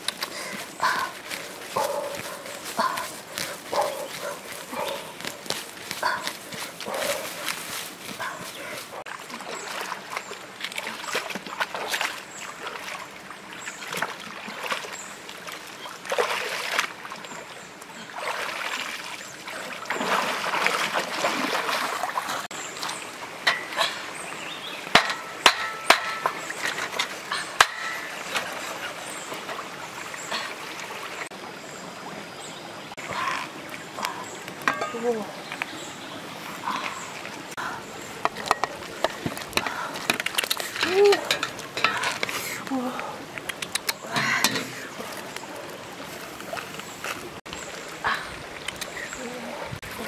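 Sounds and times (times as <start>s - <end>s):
footsteps splashing through stream: 0.0s - 31.4s, 33.0s - 50.0s.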